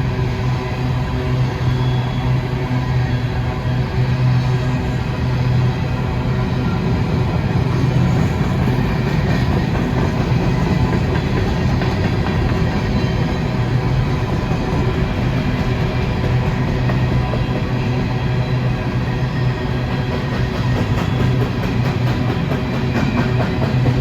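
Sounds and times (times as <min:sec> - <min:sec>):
diesel locomotive engines humming: 0:00.0 - 0:24.0
train wheels on rails: 0:00.0 - 0:24.0.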